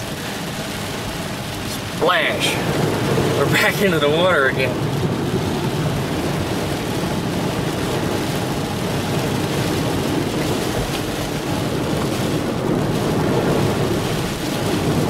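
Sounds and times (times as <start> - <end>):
water splashing under car: 0.0 - 15.0.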